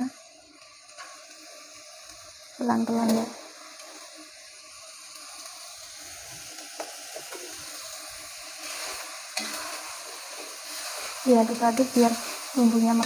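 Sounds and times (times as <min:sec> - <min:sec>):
chili paste sizzling in wok: 0:00.0 - 0:13.0.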